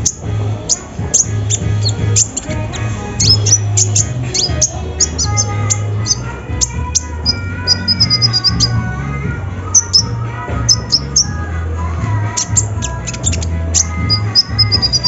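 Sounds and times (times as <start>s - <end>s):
bird high chirps: 0.0s - 8.9s, 9.7s - 11.4s, 12.3s - 15.0s
background music with bass: 0.0s - 15.0s.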